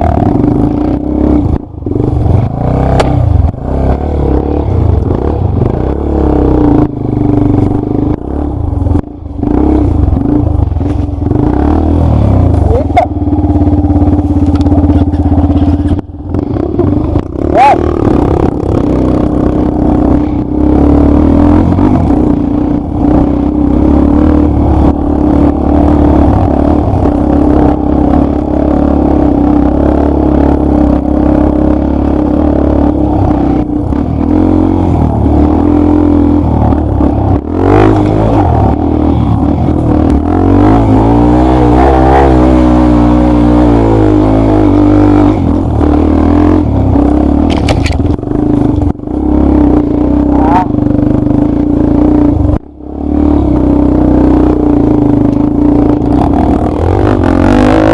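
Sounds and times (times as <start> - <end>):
dirt bike engine running: 0.0 - 57.9.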